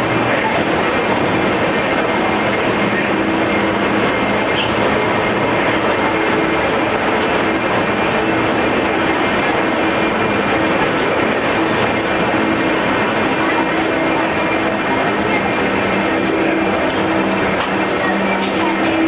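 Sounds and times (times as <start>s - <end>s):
ride train rumble and hiss: 0.0s - 19.0s.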